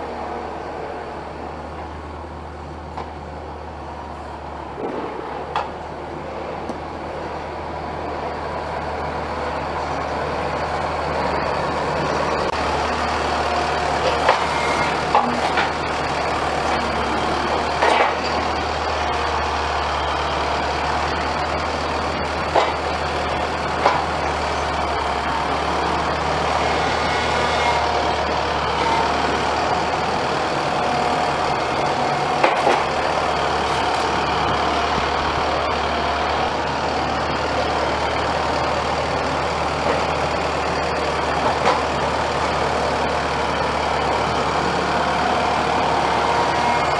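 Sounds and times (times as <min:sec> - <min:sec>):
farm machinery engine running: 0:00.0 - 0:46.9.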